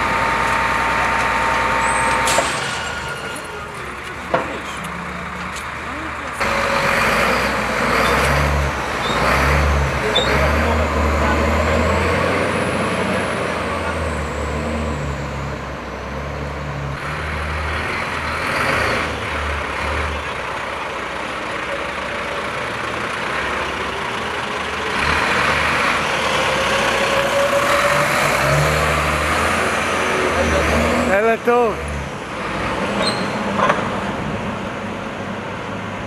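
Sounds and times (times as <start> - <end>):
diesel truck engine rumbling: 0.0 - 36.0.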